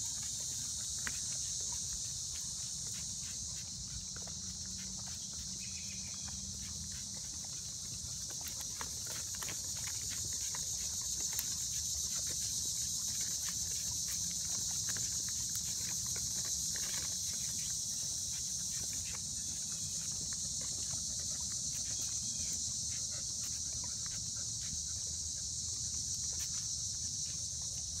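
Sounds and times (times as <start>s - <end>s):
dog panting: 0.0s - 28.0s
steady high-pitched hiss: 0.0s - 28.0s.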